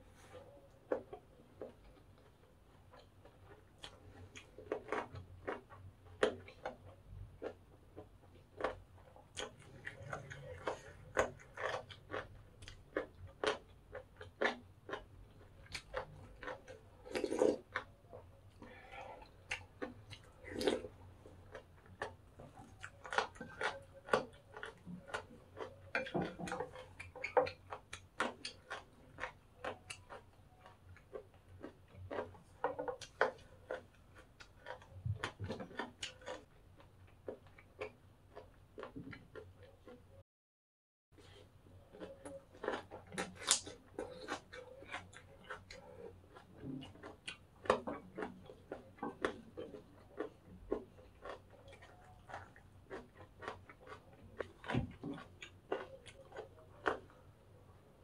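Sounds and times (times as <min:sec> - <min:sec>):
crunchy chewing: 0:00.1 - 0:40.2, 0:41.2 - 0:58.0.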